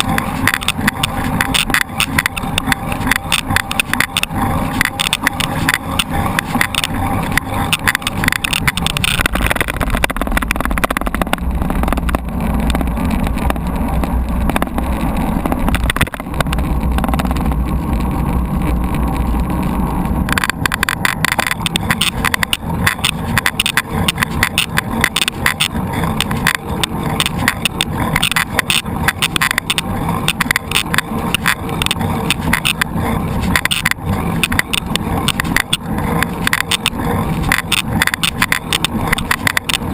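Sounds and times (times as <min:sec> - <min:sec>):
bike rattling: 0:00.0 - 0:39.9
bike tyre noise: 0:00.0 - 0:39.9
wind rumble on microphone: 0:00.0 - 0:39.9.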